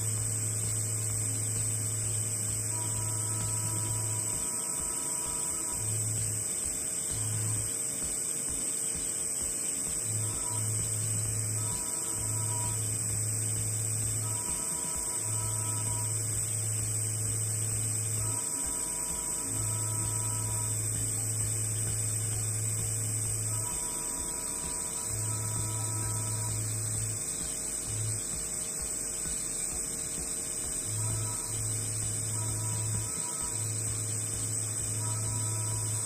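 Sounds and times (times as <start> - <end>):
welding arc humming: 0.0 - 36.0.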